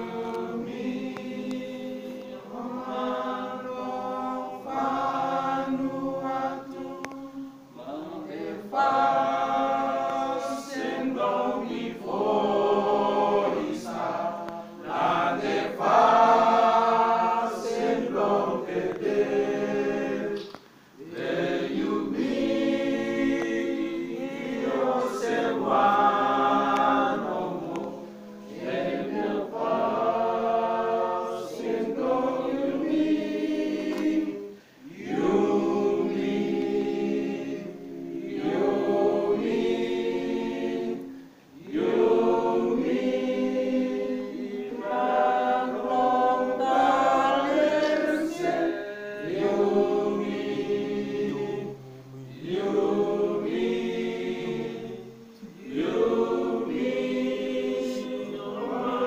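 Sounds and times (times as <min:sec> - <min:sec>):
group singing in chorus: 0:00.0 - 0:59.0.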